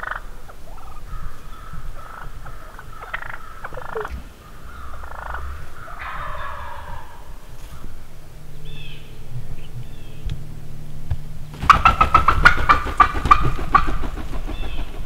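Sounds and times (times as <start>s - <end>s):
turkey calls: 0.0s - 15.0s
turkey drumming deep hum: 0.0s - 15.0s.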